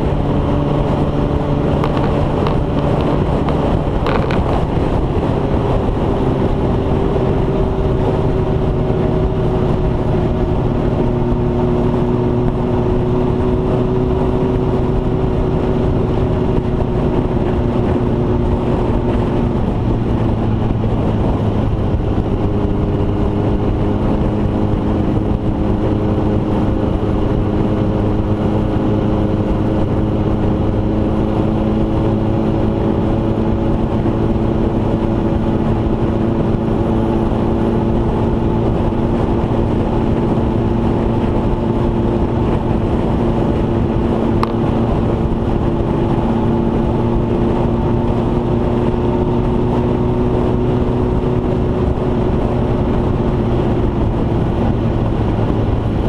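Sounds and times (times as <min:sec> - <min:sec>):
road rumble: 0:00.0 - 0:56.0
vehicle engine running: 0:00.0 - 0:56.0
wind on microphone: 0:00.0 - 0:56.0.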